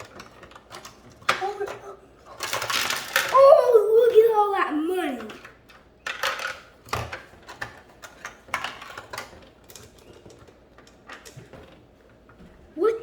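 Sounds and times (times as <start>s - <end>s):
plastic toy pieces clicking and rattling: 0.0s - 11.8s.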